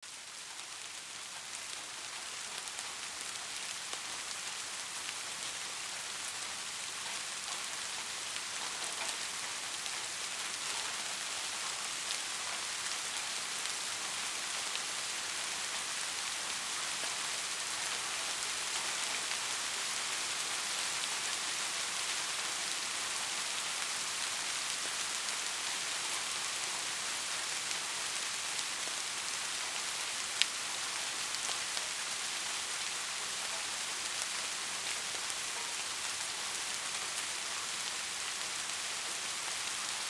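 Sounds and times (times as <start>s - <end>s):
heavy rain: 0.0s - 40.0s.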